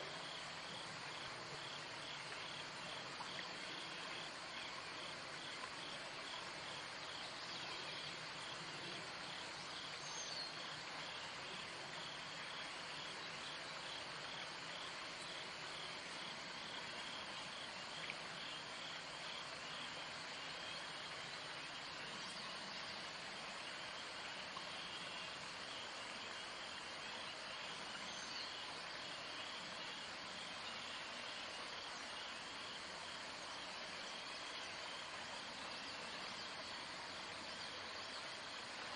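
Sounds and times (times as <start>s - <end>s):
outdoor hiss: 0.0s - 38.9s.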